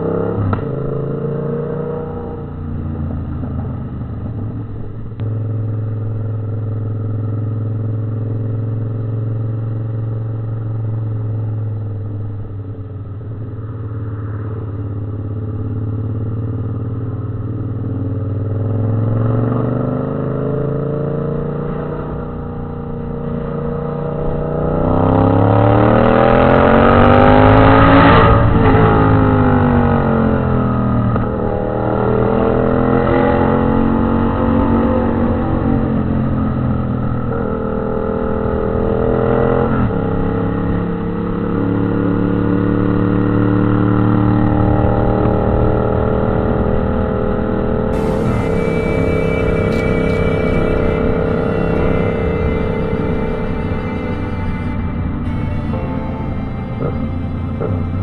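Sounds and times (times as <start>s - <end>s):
motorcycle engine revving: 0.0s - 39.1s, 48.0s - 58.0s.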